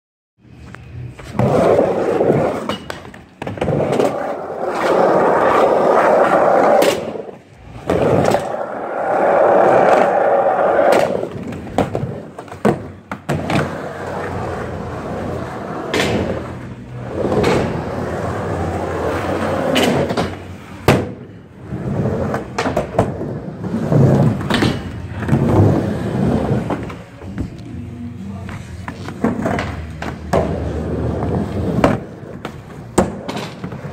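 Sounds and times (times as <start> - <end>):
skateboard wheels rolling: 1.0 - 27.6, 28.8 - 33.9.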